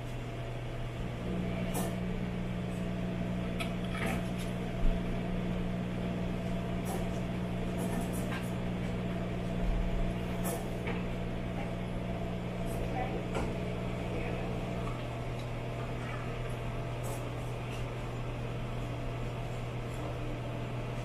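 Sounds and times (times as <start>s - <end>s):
coffee machine motor hum: 0.0s - 21.0s.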